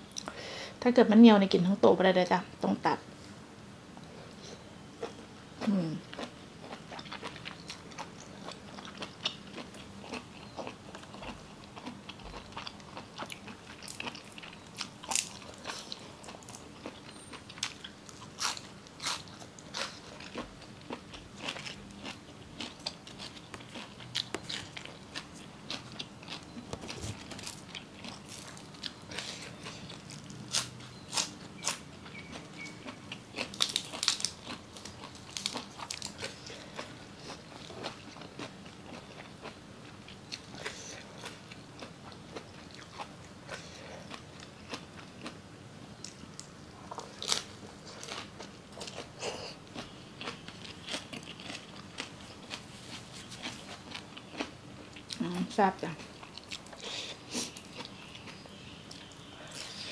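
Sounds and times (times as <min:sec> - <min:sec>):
person chewing and crunching: 0:05.0 - 0:45.4, 0:46.0 - 0:59.9.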